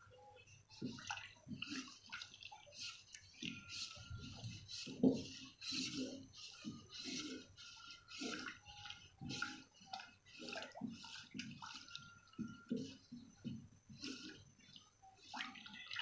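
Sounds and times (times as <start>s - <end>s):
spatula stirring and scraping pot: 0.7s - 16.0s.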